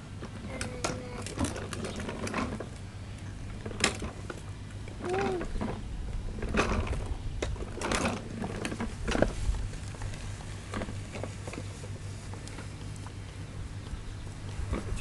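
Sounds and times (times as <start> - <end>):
steady low hum: 0.0 - 15.0
plastic tricycle rattling: 0.1 - 13.4, 14.4 - 15.0.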